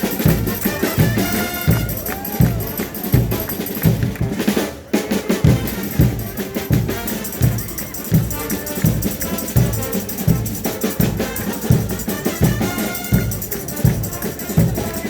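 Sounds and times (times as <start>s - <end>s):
brass lines: 0.0s - 3.6s, 5.2s - 15.0s
heavy drum beat: 0.0s - 15.0s
rattling percussion: 0.0s - 15.0s.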